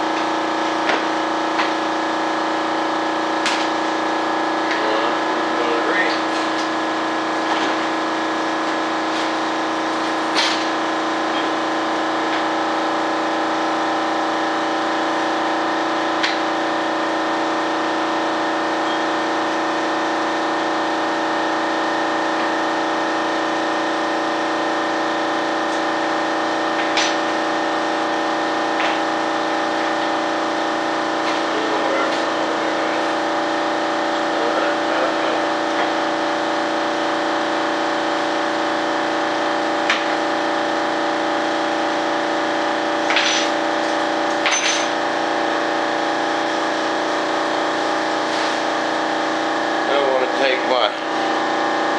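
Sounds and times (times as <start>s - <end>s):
air compressor humming: 0.0s - 51.9s.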